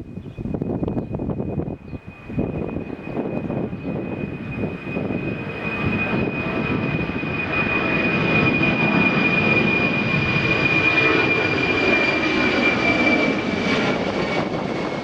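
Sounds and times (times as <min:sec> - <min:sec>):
high-pitched engine whine: 0:00.0 - 0:15.0
jet airliner taking off: 0:00.0 - 0:15.0.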